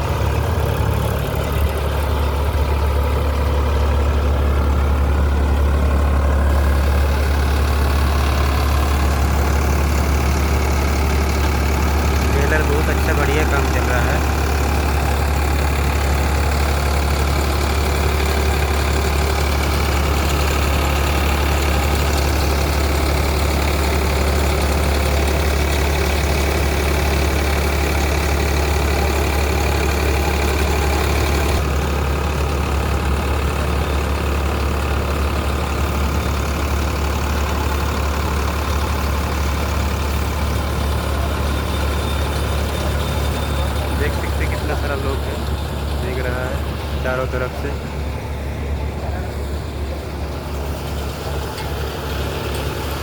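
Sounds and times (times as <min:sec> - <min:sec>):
baler machinery noise: 0:00.0 - 0:53.0
tractor diesel engine running: 0:00.0 - 0:53.0.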